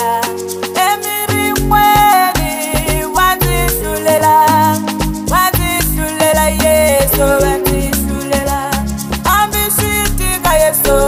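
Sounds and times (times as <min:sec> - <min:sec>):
upbeat african dance music: 0:00.0 - 0:11.0.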